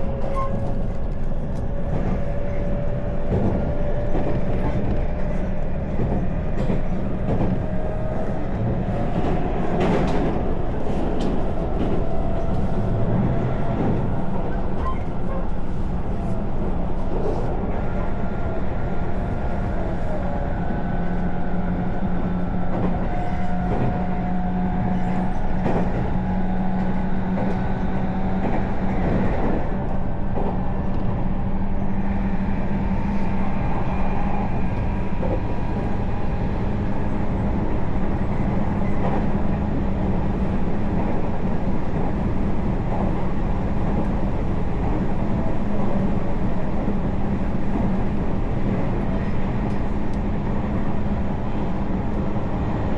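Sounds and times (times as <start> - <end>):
train rolling on rails: 0.0 - 52.9.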